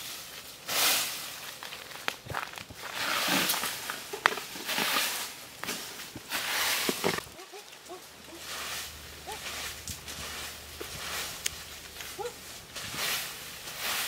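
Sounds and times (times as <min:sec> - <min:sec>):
hands scraping dry leaves and sand: 0:00.0 - 0:14.0.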